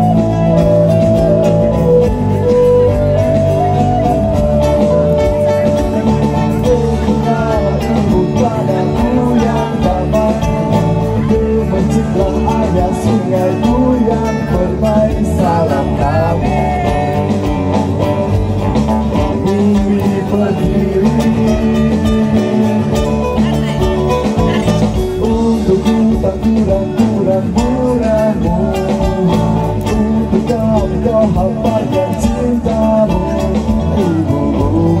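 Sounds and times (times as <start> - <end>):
person singing: 0.0 - 18.2, 18.8 - 35.0
acoustic guitars playing: 0.0 - 35.0.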